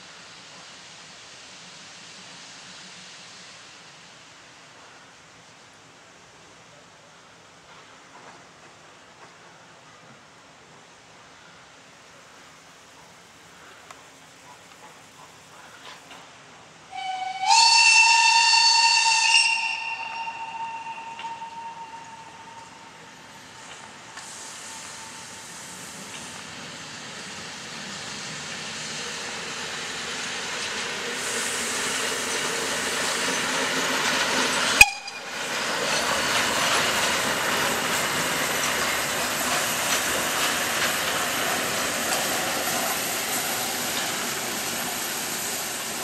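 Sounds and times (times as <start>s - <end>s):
steam hiss: 0.0s - 46.0s
steam locomotive running on track: 0.0s - 46.0s.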